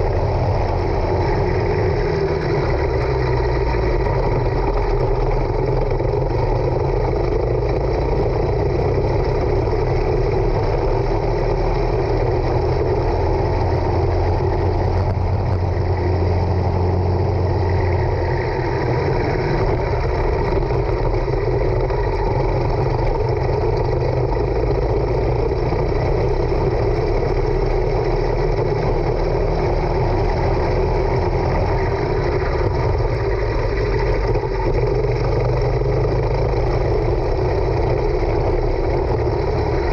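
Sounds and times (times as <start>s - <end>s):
racing kart engine revving: 0.0s - 39.9s.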